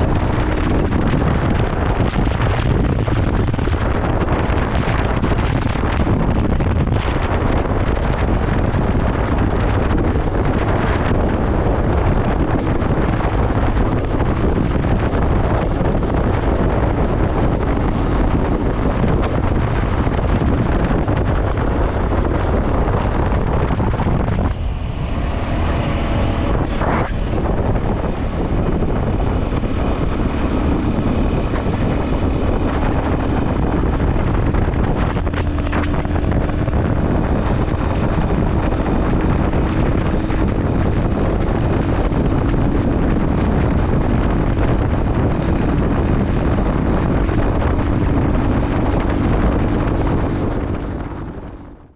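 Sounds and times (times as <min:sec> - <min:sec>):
motorcycle road and engine noise: 0:00.0 - 0:51.9
wind buffeting microphone: 0:00.0 - 0:51.9.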